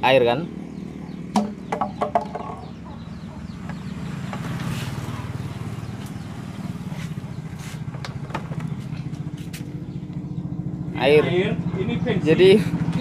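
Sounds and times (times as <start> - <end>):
small engine idling: 0.1 - 13.0.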